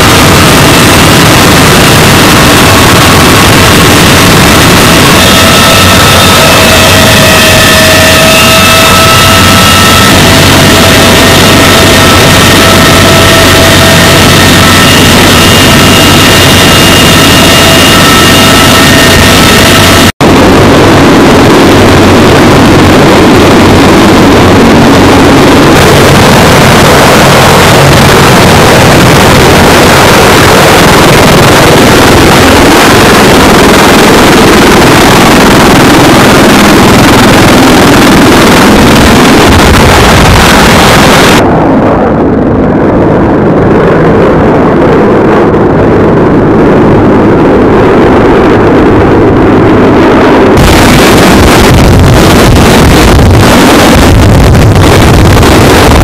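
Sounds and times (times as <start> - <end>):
helicopters flying overhead: 0.0 - 56.0.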